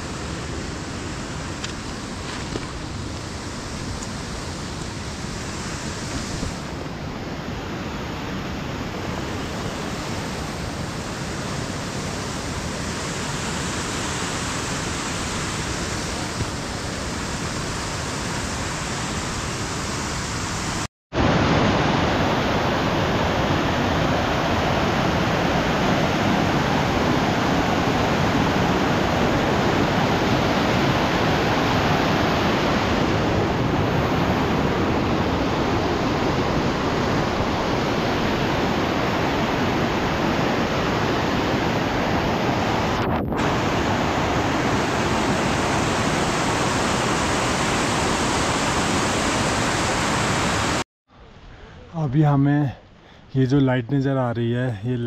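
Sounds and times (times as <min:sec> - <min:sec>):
steady rushing noise: 0:00.0 - 0:52.1.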